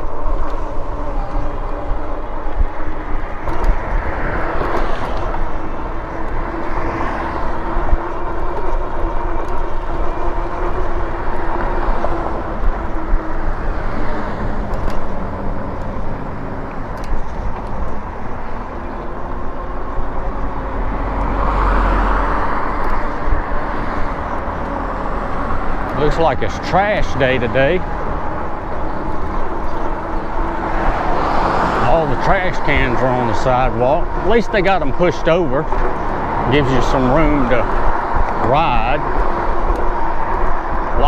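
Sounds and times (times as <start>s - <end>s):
vehicles passing: 0.0s - 41.0s
wind and road noise: 0.0s - 41.0s.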